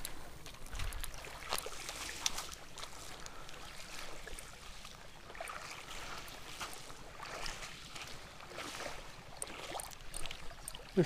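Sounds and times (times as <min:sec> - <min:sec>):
seawater lapping and trickling: 0:00.0 - 0:11.0
small water splashes: 0:00.0 - 0:11.0.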